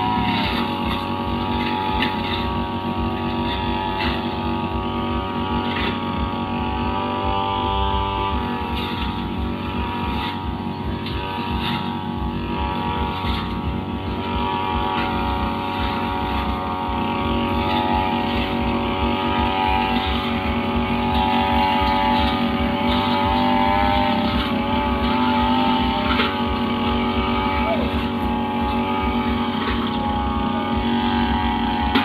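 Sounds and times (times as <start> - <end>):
brush cutter running: 0.0 - 32.0.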